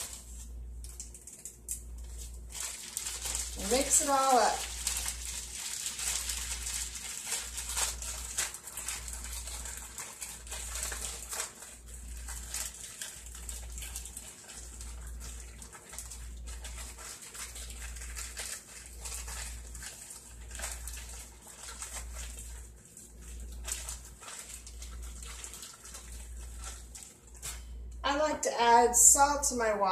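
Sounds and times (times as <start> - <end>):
plastic bag crinkling and squishing: 0.0 - 28.0.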